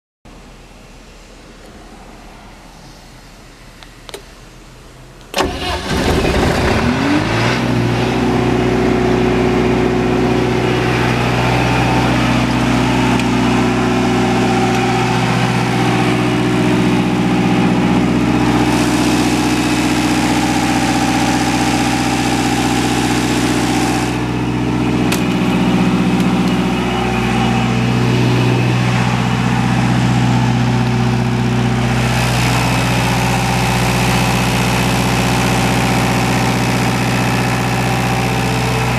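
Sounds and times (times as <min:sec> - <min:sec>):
diesel generator engine starting: 0:01.2 - 0:38.9.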